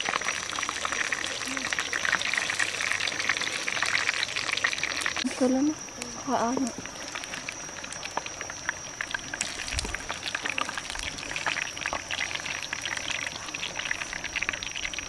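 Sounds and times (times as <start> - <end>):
chicken wings sizzling in oil: 0.0 - 15.0
steady high-pitched tone: 0.0 - 15.0.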